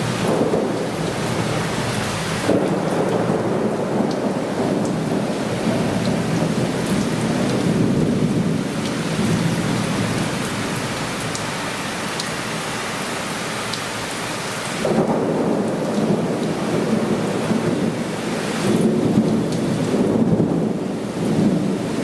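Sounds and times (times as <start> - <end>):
thunder rumbling: 0.0 - 11.0, 14.8 - 22.0
heavy rain downpour: 0.0 - 22.0
raindrops ticking close by: 0.0 - 22.0.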